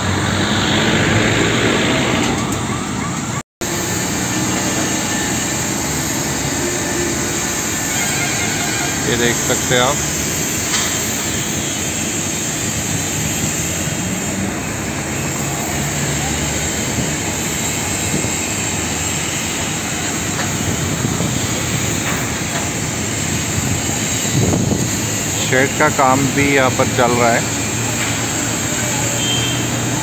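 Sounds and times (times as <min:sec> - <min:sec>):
road traffic rumble and hiss: 0:00.0 - 0:30.0.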